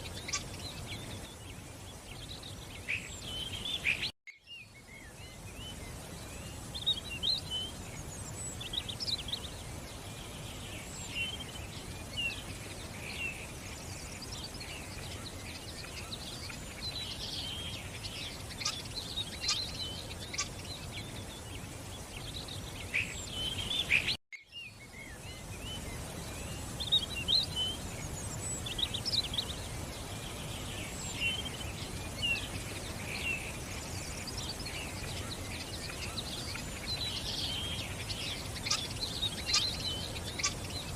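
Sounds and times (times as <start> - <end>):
songbirds chirping and warbling: 0.0 - 40.9
steady background hiss: 0.0 - 40.9.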